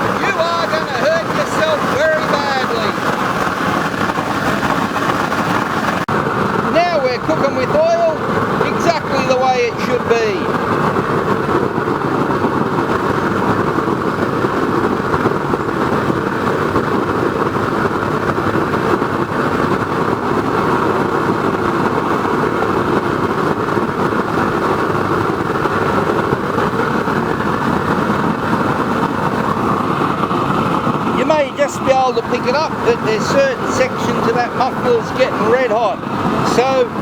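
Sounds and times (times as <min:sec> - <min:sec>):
oil burner flame roaring: 0:00.0 - 0:37.0.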